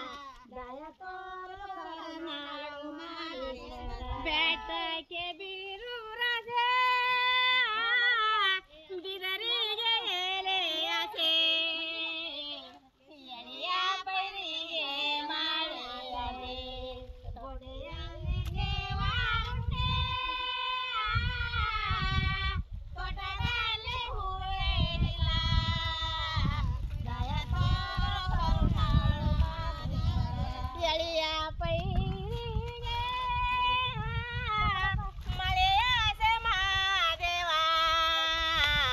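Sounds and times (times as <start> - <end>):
woman singing folk song: 0.0 - 38.9.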